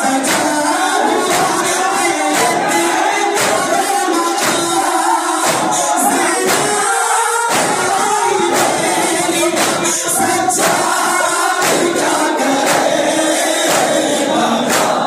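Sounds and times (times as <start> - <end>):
lead reciter voice: 0.0 - 15.0
men chanting in unison: 0.0 - 15.0
rhythmic chest-beating strikes: 0.0 - 15.0.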